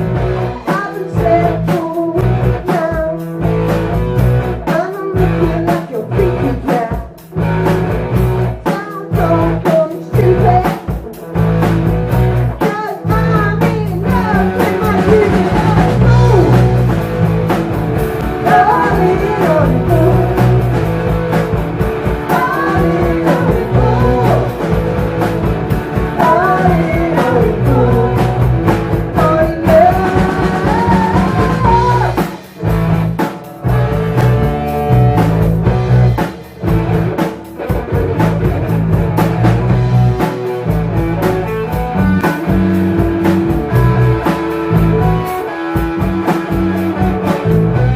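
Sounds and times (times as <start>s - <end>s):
live psychedelic rock band: 0.0s - 47.9s
sliding lead guitar line: 0.0s - 47.9s.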